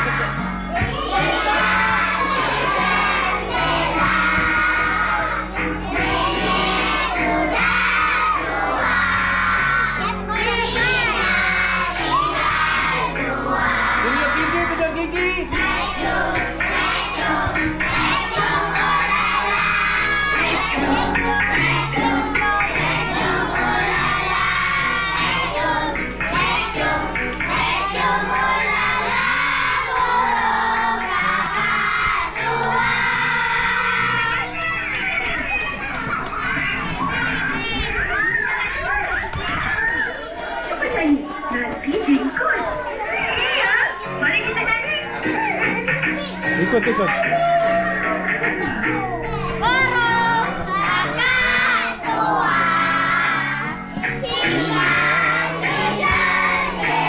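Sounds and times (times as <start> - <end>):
children singing: 0.0 - 40.6, 48.0 - 57.0.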